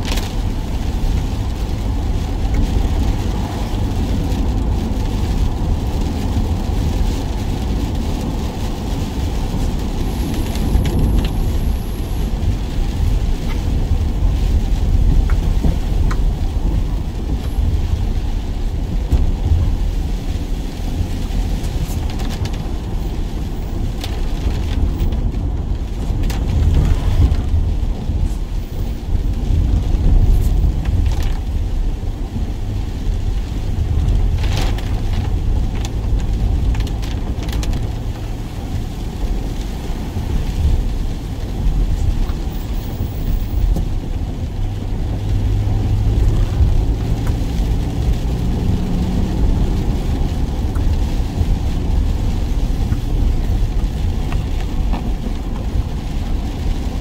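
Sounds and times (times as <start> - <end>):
deep rumble: 0.0 - 57.0
steady rain: 0.0 - 57.0.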